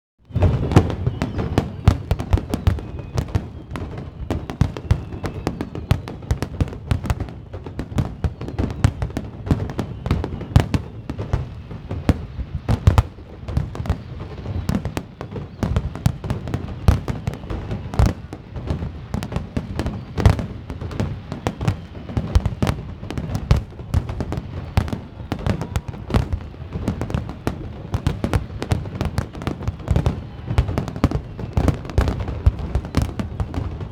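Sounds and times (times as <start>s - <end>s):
fireworks bangs and booms: 0.3s - 33.9s.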